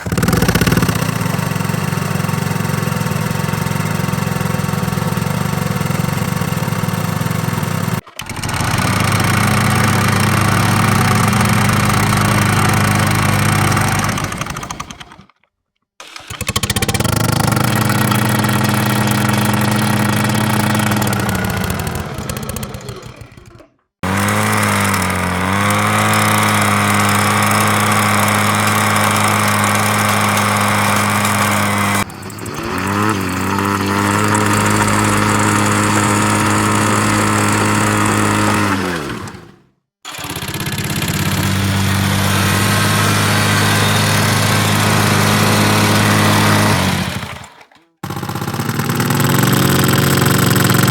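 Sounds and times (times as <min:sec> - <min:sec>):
lawnmower engine running: 0:00.0 - 0:15.4, 0:16.0 - 0:50.9.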